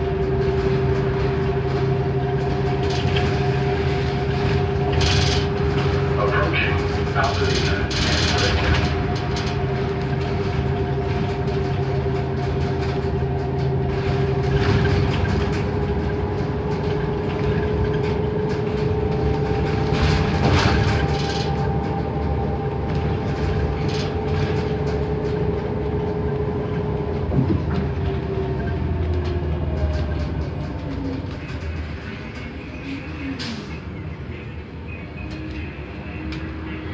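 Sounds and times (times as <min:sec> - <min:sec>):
bus drivetrain whine: 0:00.0 - 0:36.9
road rumble: 0:00.0 - 0:36.9
body rattles and knocks: 0:00.1 - 0:31.8.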